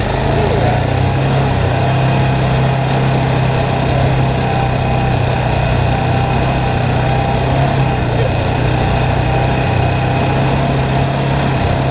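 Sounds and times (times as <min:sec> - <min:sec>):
atv engine running: 0:00.0 - 0:11.9.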